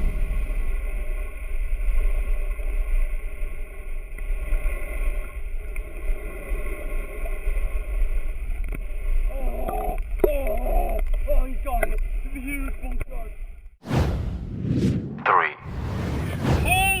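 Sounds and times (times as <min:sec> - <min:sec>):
boat engine rumbling: 0:00.0 - 0:13.8.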